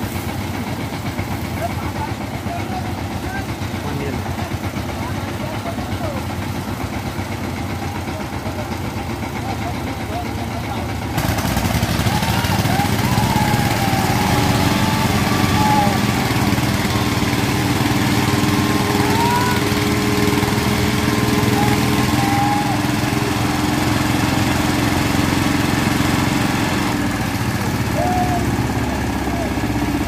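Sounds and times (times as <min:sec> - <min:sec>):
diesel engine running loudly: 0:00.0 - 0:30.0.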